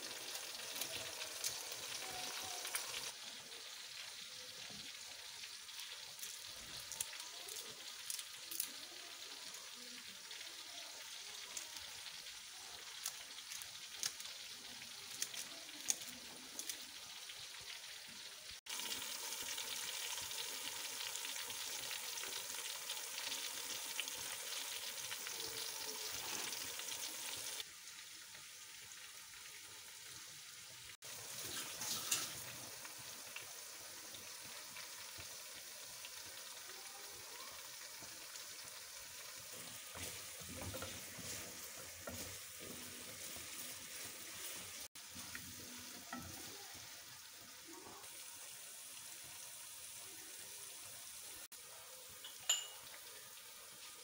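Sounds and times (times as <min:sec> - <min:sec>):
masala sizzling in oil: 0:00.0 - 0:54.0.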